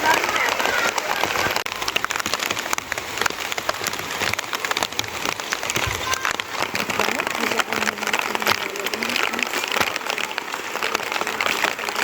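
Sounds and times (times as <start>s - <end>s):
rain falling: 0.0s - 12.0s
raindrops clicking on a surface: 0.0s - 12.0s.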